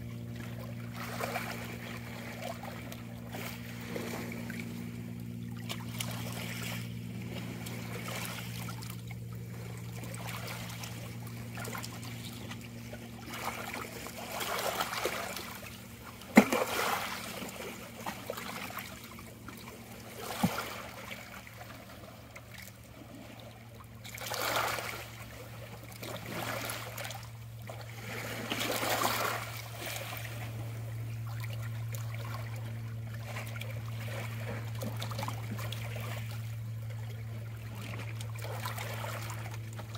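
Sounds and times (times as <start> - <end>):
steady low hum: 0.0 - 39.9
small waves lapping on rocks: 0.1 - 39.9.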